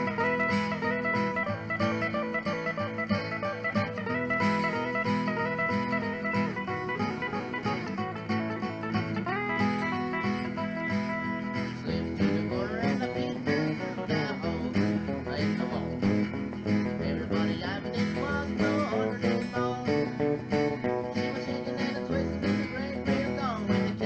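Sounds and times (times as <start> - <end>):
bass and rhythm backing: 0.0 - 24.0
lead guitar bending notes: 0.0 - 24.0.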